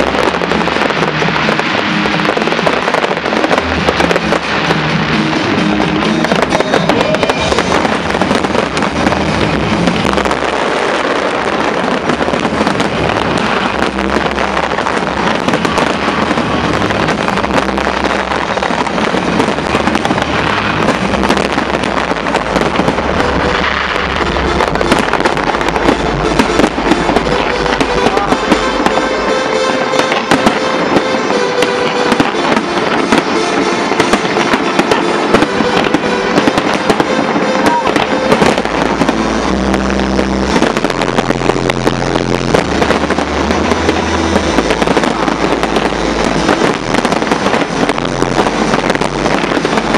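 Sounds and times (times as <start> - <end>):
fireworks bangs and crackling: 0.0 - 49.9
low rumble: 0.0 - 49.9
music: 0.0 - 49.9.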